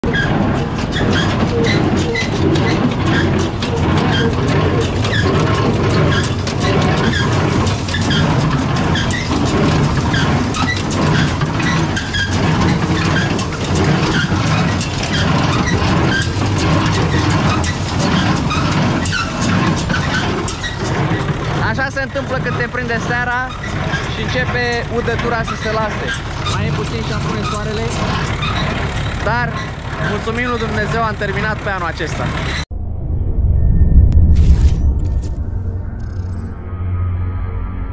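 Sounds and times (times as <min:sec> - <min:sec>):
machinery clicks and squeaks: 0:00.0 - 0:32.7, 0:34.1 - 0:36.6
tractor engine running: 0:00.0 - 0:32.7.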